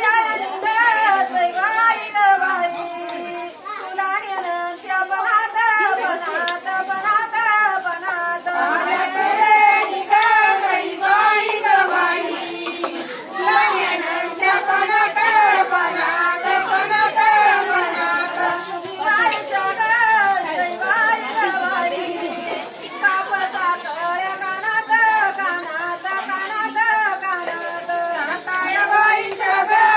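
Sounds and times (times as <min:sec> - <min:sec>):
women singing unaccompanied: 0:00.0 - 0:29.9.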